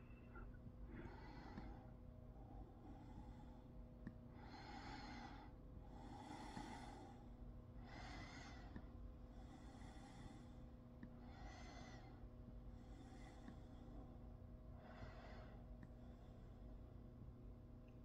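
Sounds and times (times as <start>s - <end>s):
soft breathing: 0.0s - 17.3s
low steady hum: 0.0s - 18.0s.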